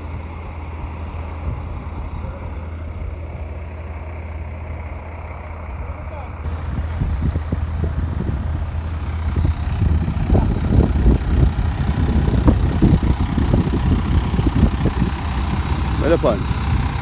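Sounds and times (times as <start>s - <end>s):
heavy engine rumbling: 0.0s - 17.0s.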